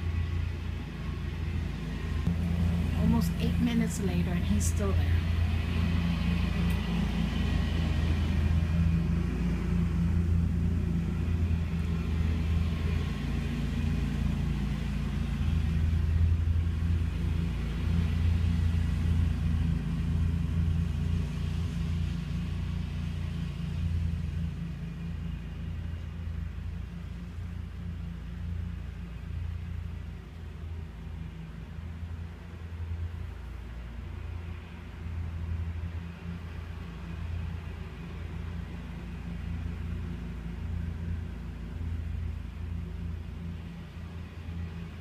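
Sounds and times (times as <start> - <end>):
low motor rumble: 0.0 - 45.0.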